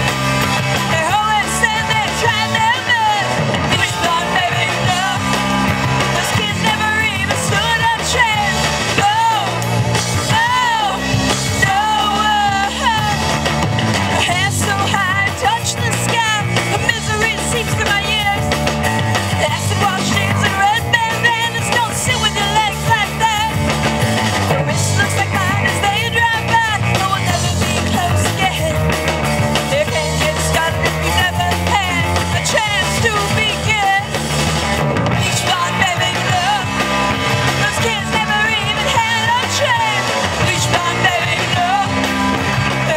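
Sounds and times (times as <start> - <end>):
woman singing lead: 0.0 - 34.2, 35.0 - 42.9
bass guitar: 0.0 - 42.9
drum kit: 0.0 - 42.9
electric guitars: 0.0 - 42.9.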